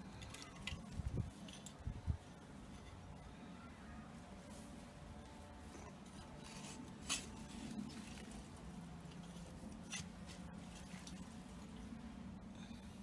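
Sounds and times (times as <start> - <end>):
rustling and scraping of soil: 0.0 - 13.0.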